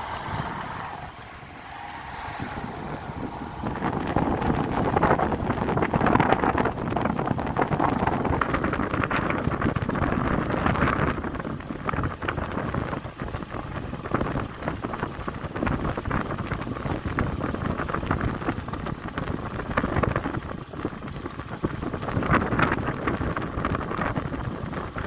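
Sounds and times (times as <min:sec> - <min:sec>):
motorbike engine and road noise: 0:00.0 - 0:25.0
wind buffeting microphone: 0:00.0 - 0:25.0.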